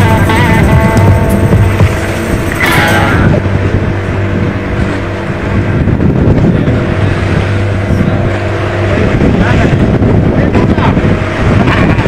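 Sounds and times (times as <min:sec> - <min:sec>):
boat motor droning: 0:00.0 - 0:12.0
water splashing along hull: 0:00.0 - 0:12.0.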